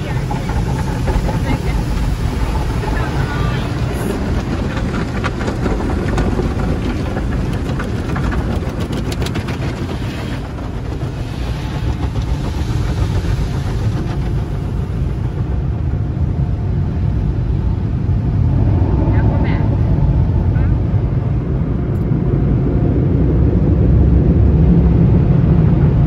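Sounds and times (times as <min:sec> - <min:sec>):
car wash machinery rumble: 0:00.0 - 0:26.0.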